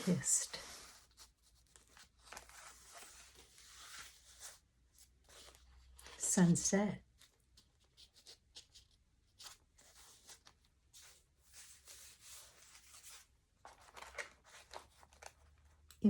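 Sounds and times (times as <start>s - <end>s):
paper pages rustling: 0.0s - 6.2s, 7.0s - 16.0s.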